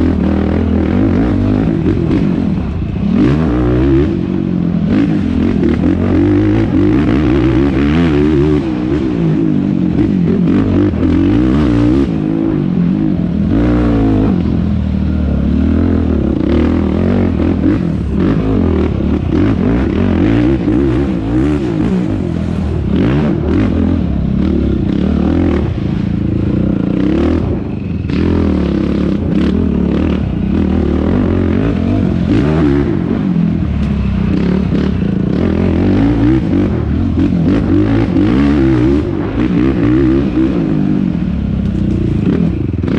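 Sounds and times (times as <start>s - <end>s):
quad engine revving: 0.0s - 42.9s.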